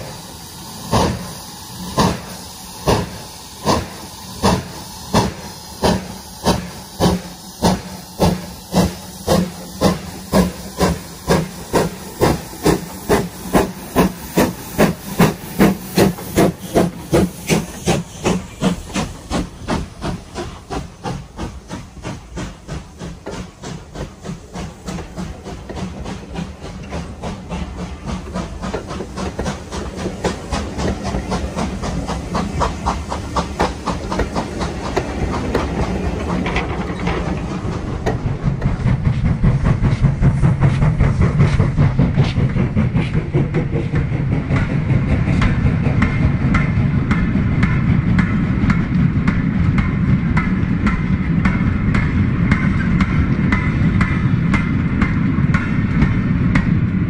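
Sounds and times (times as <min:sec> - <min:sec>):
model steam locomotive chuffing: 0:00.0 - 0:57.0.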